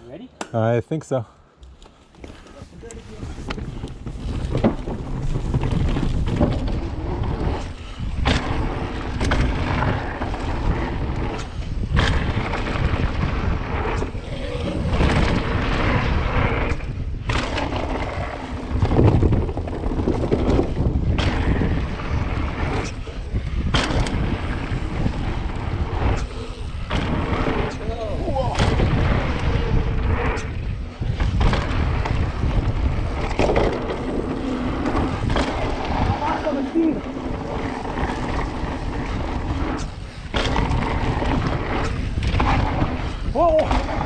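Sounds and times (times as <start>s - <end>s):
bike tyre noise on dirt: 1.6s - 44.0s
wind rush on microphone: 2.2s - 44.0s
bike clattering over bumps: 3.1s - 44.0s.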